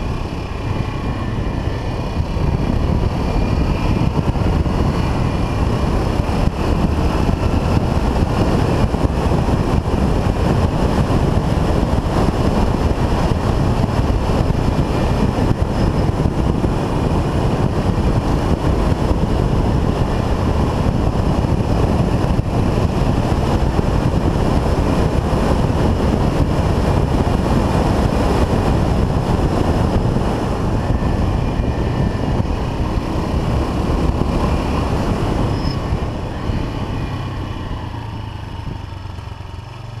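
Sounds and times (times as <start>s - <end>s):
motorcycle engine cruising: 0.0s - 40.0s
wind buffeting microphone: 0.0s - 40.0s.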